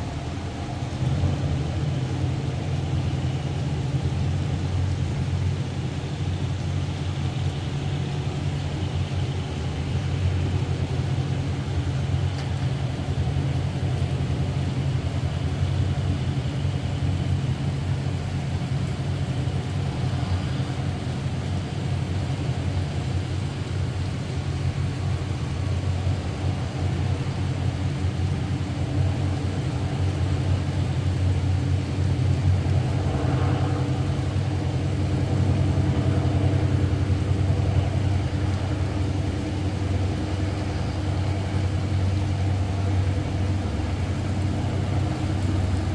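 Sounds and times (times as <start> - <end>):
heavy rain hiss: 0.0 - 45.9
locomotive low rumble: 0.0 - 45.9.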